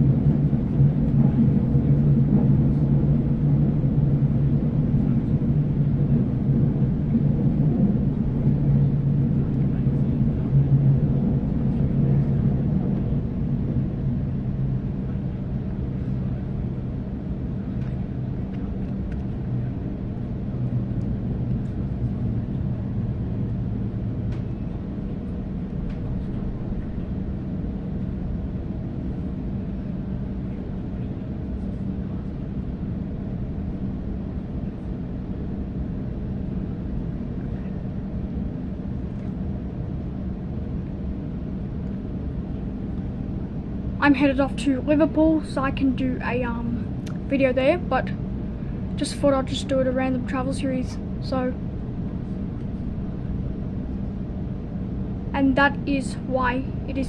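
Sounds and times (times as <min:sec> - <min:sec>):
electric train rumbling on track: 0:00.0 - 0:57.0
low hum: 0:00.0 - 0:57.0.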